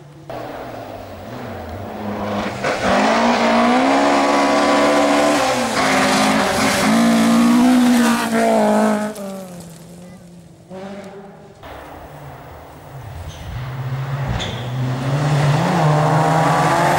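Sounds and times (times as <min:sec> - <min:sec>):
rally car engine at full throttle: 0:00.0 - 0:16.9.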